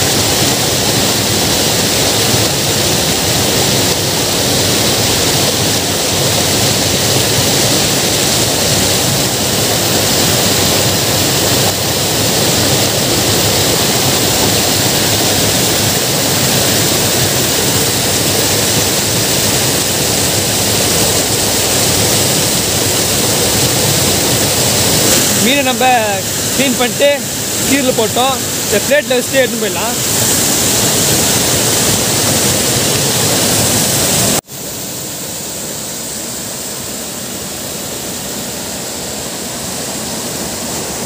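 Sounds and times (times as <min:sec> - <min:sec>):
water rushing through outlet: 0:00.0 - 0:41.0.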